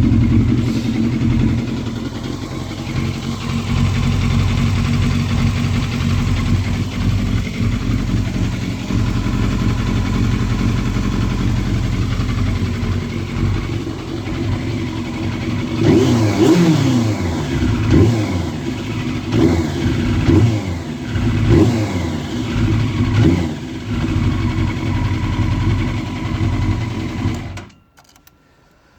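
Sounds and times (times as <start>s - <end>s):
motorcycle engine idling and revving: 0.0s - 27.8s.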